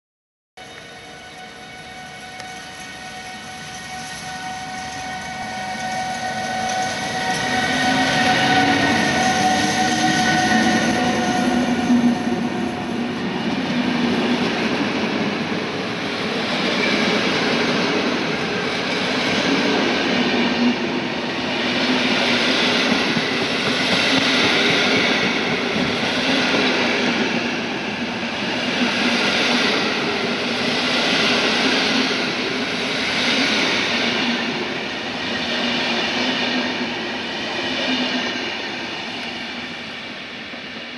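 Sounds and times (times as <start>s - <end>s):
train wheels on rails: 0.6s - 40.9s.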